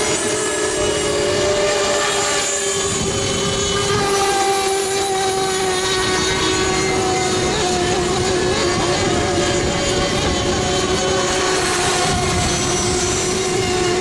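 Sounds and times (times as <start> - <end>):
model boat engines whining: 0.0 - 14.0.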